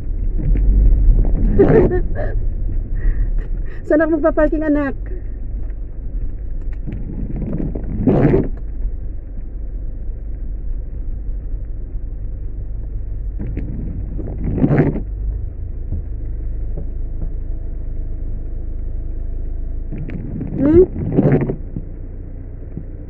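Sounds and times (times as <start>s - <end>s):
car engine and road rumble: 0.0s - 23.0s
water rushing under car: 0.0s - 23.0s.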